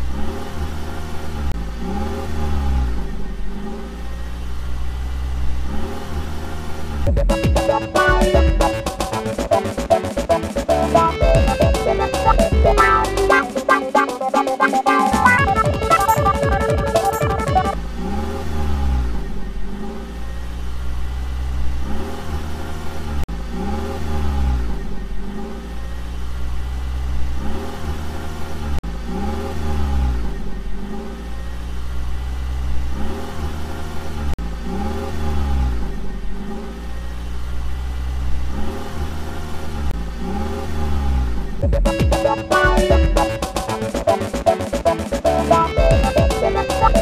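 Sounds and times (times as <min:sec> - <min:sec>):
car engine revving: 0:00.0 - 0:13.6, 0:15.1 - 0:47.0.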